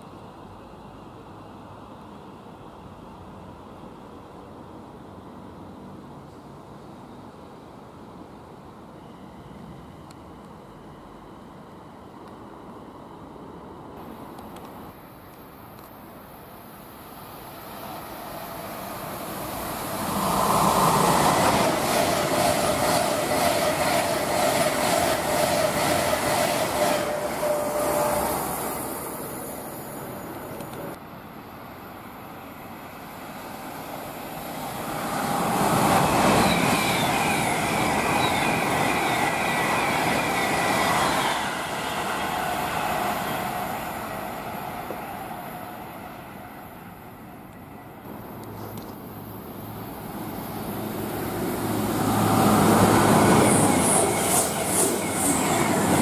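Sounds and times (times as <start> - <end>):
electric train passing at speed: 0.0 - 56.0.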